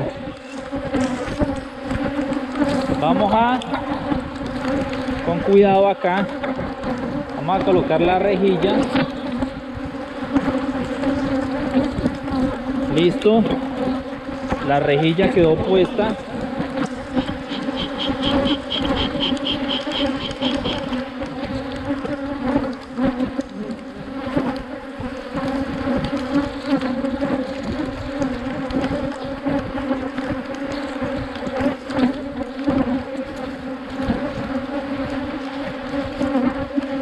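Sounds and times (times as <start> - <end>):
bees buzzing: 0.0 - 37.0.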